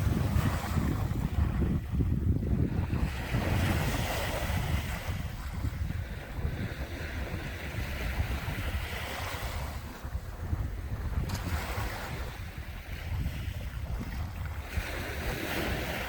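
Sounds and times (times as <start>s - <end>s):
sea waves washing in: 0.0s - 16.0s
wind buffeting microphone: 0.0s - 16.0s.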